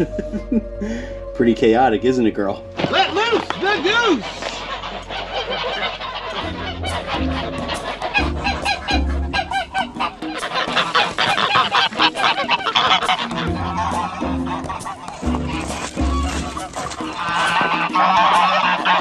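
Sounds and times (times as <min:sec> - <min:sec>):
geese honking: 0:00.0 - 0:19.0
low music notes: 0:00.0 - 0:19.0.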